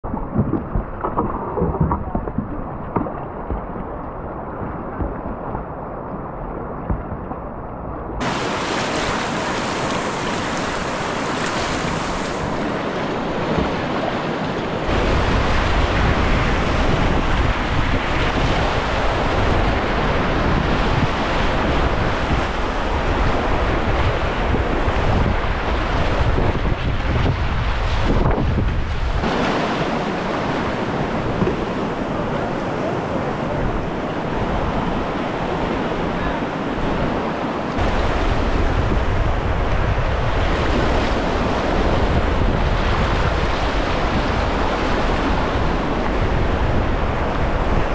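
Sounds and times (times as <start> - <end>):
wind buffeting microphone: 8.1 - 47.9
rushing whitewater: 8.2 - 28.3, 29.0 - 47.9.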